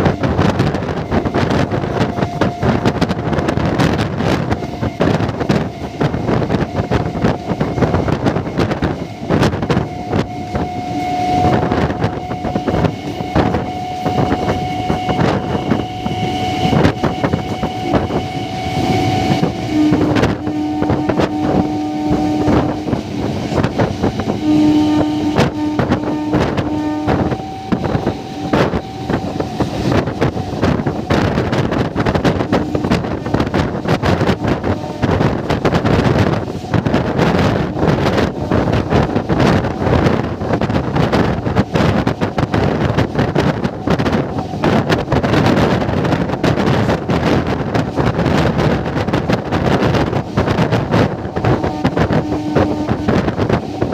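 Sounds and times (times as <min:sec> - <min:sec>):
train wheels clattering on rails: 0:00.0 - 0:53.9
wind buffeting microphone: 0:00.0 - 0:53.9.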